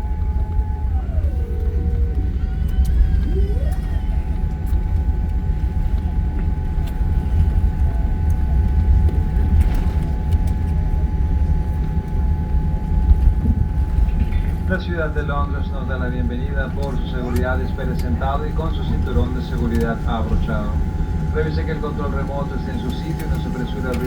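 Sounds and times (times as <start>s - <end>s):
aircraft cabin rumble: 0.0s - 24.0s
faint engine whine: 0.0s - 24.0s.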